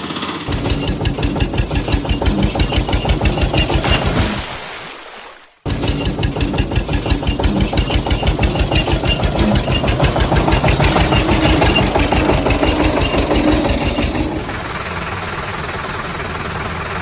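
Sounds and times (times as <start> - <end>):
engine chugging: 0.0 - 4.4, 5.7 - 17.0.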